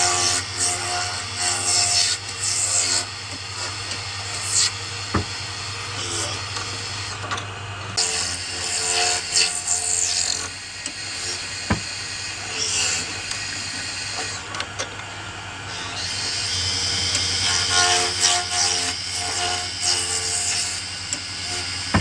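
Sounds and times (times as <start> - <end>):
lathe motor humming: 0.0 - 19.8.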